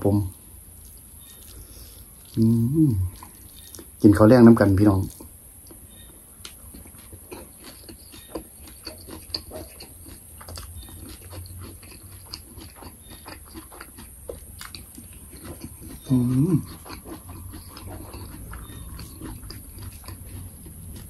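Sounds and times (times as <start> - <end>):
faint low hum: 0.0 - 21.0
person chewing: 0.6 - 4.0, 5.0 - 21.0.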